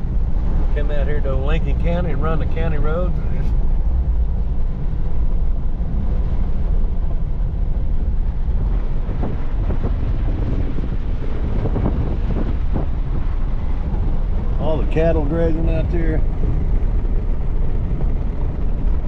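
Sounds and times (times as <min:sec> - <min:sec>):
engine and road noise: 0:00.0 - 0:19.0
wind buffeting microphone: 0:00.0 - 0:19.0.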